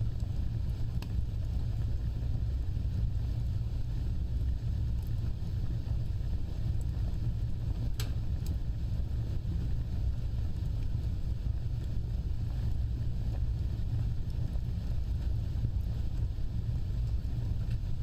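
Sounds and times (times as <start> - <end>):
fire burning with low rumble: 0.0 - 18.0
fire crackles: 0.0 - 18.0.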